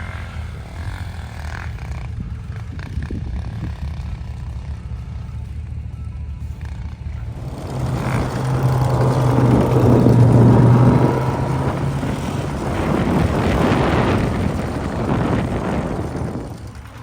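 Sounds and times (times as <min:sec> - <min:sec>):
off-road vehicle engine passing: 0:00.0 - 0:17.0.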